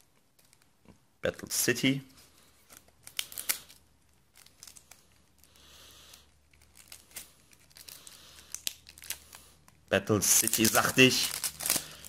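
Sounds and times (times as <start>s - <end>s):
trading cards rustling and clicking: 2.2s - 12.0s.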